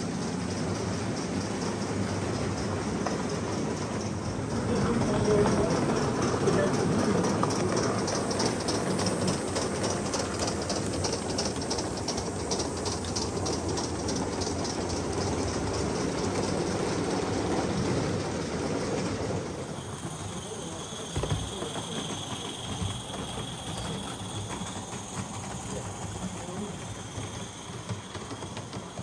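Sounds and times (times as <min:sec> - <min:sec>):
model steam locomotive running: 0:00.0 - 0:29.0.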